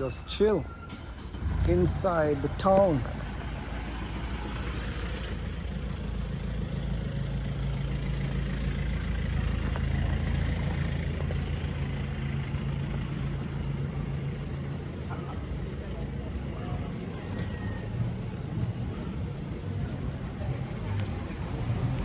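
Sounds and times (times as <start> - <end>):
street noise: 0.0 - 22.0
vehicle engine idling: 0.0 - 22.0.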